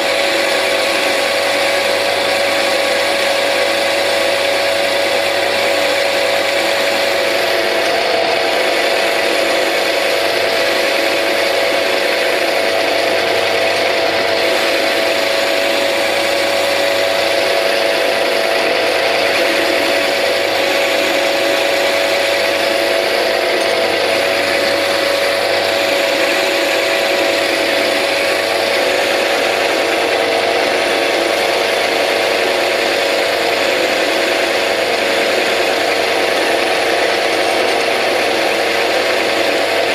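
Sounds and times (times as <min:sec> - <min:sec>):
metal lathe whining: 0:00.0 - 0:39.9.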